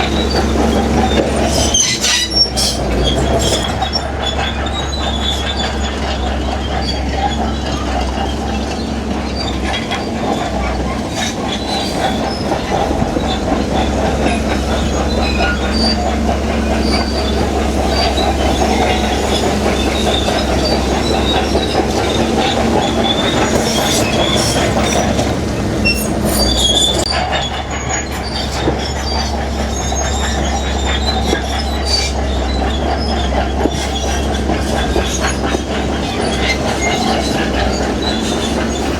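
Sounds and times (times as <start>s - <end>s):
diesel engine under load: 0.0s - 38.9s
steel tracks clanking and squealing: 0.0s - 38.9s.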